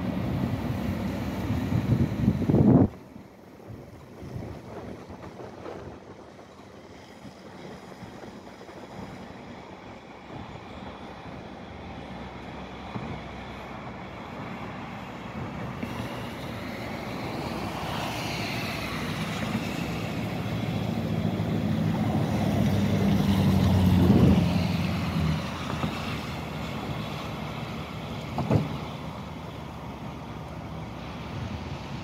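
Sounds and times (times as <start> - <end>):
diesel locomotive engine humming: 0.0 - 32.0.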